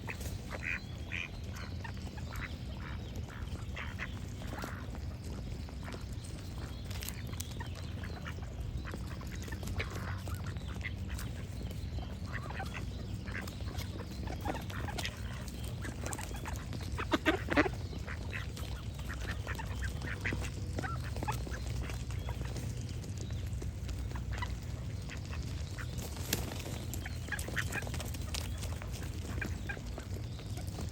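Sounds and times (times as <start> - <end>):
birdsong: 0.0 - 30.9
ducks quacking: 0.0 - 30.9
steady low background noise: 0.0 - 30.9.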